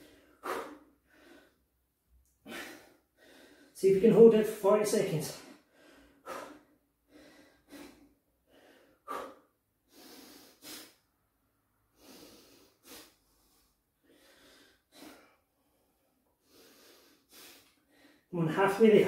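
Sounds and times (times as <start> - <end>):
man breathing hard: 0.0 - 3.8, 5.4 - 11.1, 11.8 - 18.3.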